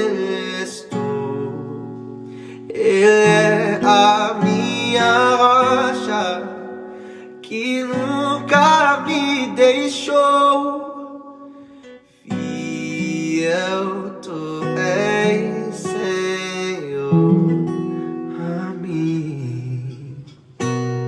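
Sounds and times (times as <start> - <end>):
person singing: 0.0 - 20.5
acoustic guitar: 0.0 - 21.0.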